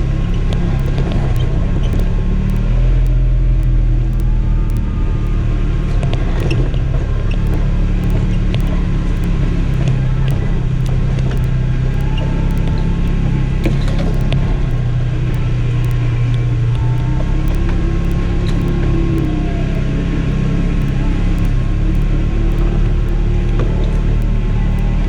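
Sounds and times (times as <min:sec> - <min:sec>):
faint ticks and rattles: 0:00.2 - 0:25.0.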